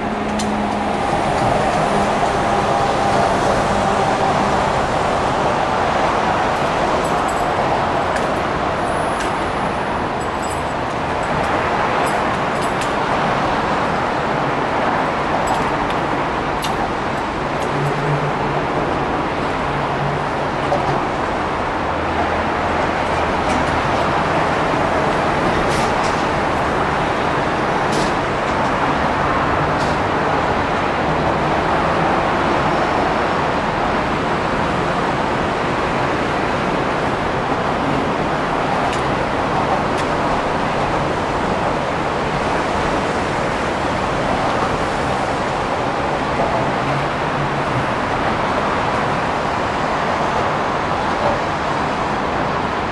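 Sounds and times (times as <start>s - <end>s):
city traffic noise: 0.0s - 52.9s.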